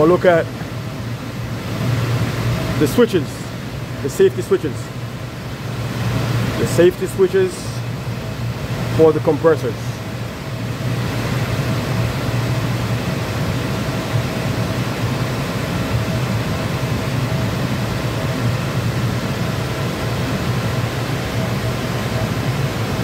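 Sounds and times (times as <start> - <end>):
blower fans rushing air: 0.0 - 23.0
faint steady whine: 0.0 - 23.0
low machinery hum: 0.0 - 23.0.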